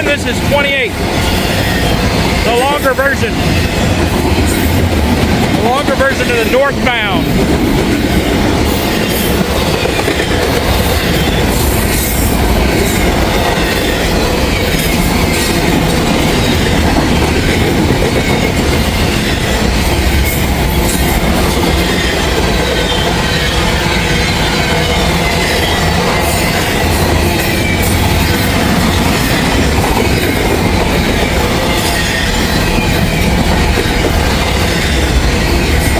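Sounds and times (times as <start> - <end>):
train wheels rumbling on rail: 0.0 - 35.9
wheels clacking over rail joints: 0.0 - 35.9.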